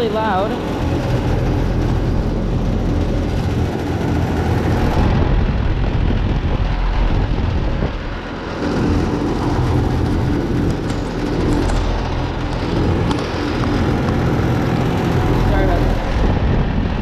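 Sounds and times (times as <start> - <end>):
compressor hum: 0.0 - 17.0
condenser fan air rush: 0.0 - 17.0.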